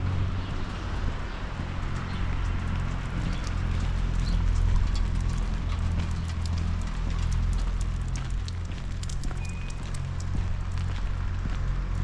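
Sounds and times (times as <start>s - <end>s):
footsteps on wet pavement: 0.1s - 12.0s
rain pattering: 1.6s - 11.6s.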